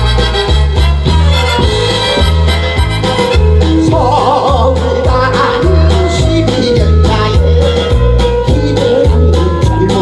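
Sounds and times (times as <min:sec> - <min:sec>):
trot music with heavy bass: 0:00.0 - 0:10.0.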